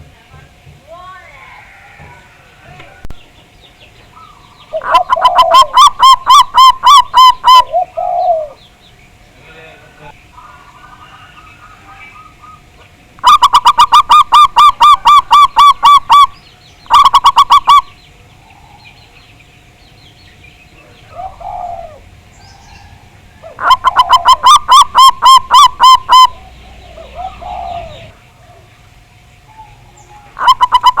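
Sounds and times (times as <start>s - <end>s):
faint steady hum: 0.0s - 31.0s
doves calling in staccato notes: 1.7s - 9.4s, 10.1s - 31.0s
soft low dove calls: 2.8s - 9.3s, 10.0s - 19.7s, 20.6s - 31.0s.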